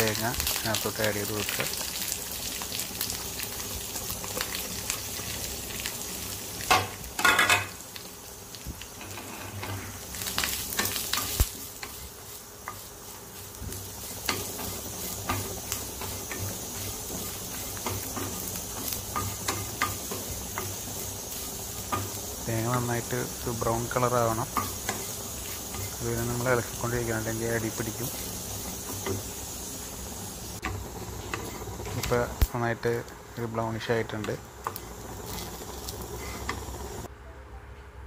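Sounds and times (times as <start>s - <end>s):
coconut sizzling in a pan: 0.0s - 37.1s.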